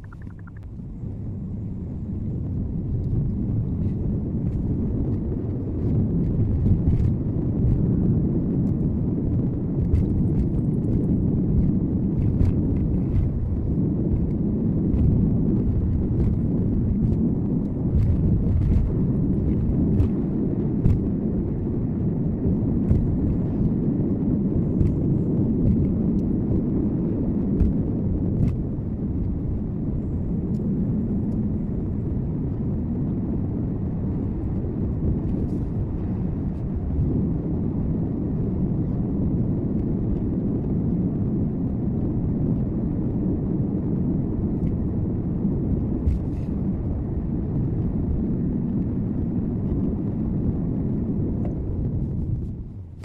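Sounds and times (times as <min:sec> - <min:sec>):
road and engine rumble: 0:00.0 - 0:53.0.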